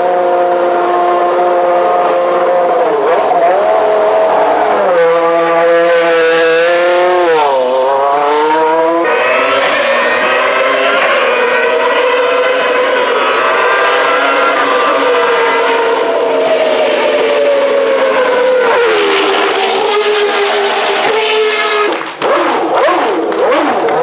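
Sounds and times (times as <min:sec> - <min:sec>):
racing engine at high revs: 0:00.0 - 0:24.0.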